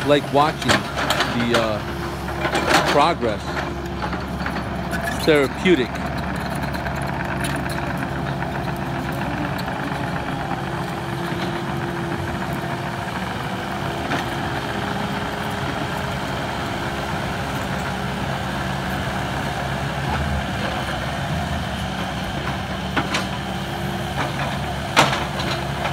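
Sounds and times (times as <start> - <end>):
machine engine running steadily: 0.0 - 25.9.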